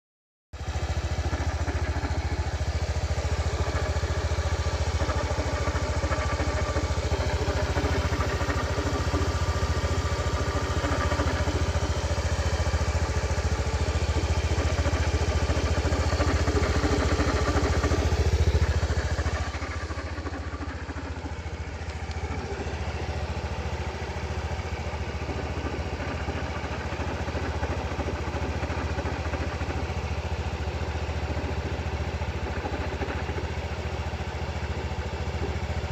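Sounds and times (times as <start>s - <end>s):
scooter engine idling: 0.6s - 35.9s.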